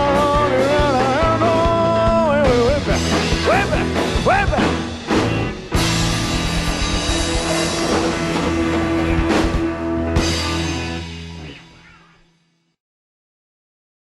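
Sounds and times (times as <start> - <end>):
rock band playing ringing chord: 0.0 - 12.4
drum and cymbal hits: 0.1 - 11.4.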